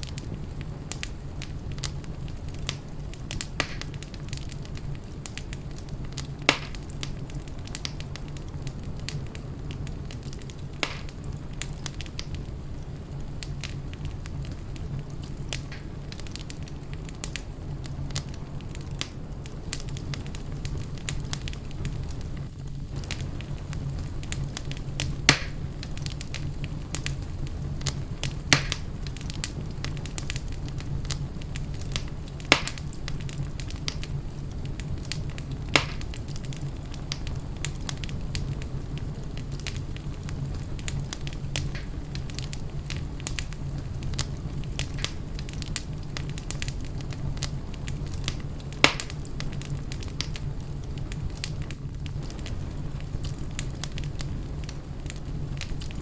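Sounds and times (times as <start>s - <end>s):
sharp pops from fire: 0.0s - 56.0s
wood fire crackling: 0.0s - 56.0s.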